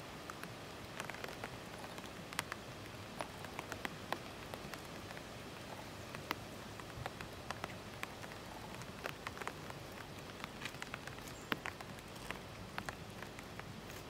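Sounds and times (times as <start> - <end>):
steady hiss: 0.0 - 14.0
sharp ticks and clicks: 0.2 - 14.0.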